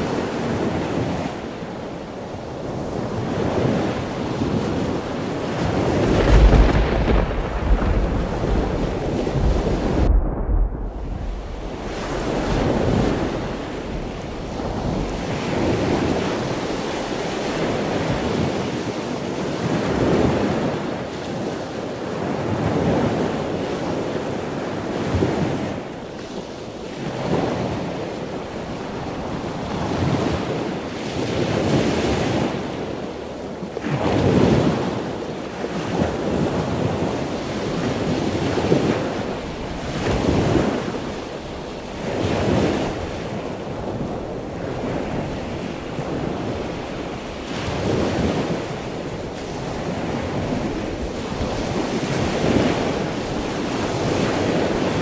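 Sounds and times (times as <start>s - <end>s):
sea waves washing onto shore: 0.0s - 55.0s
wind: 0.0s - 55.0s.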